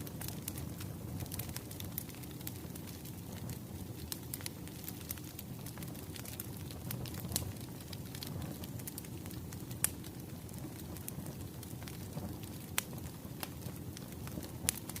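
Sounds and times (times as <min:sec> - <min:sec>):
burning logs rumbling: 0:00.0 - 0:15.0
wood fire popping: 0:00.0 - 0:15.0.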